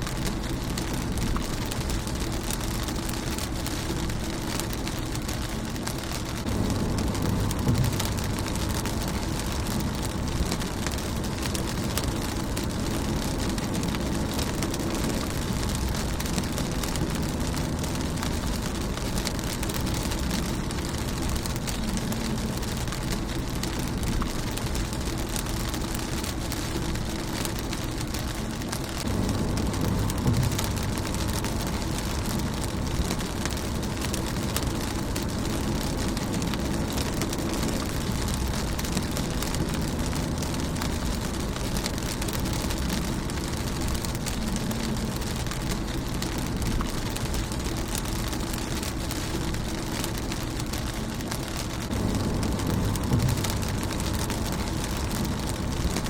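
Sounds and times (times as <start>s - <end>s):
deep rumble: 0.0s - 56.0s
rain on a windshield: 0.0s - 56.0s.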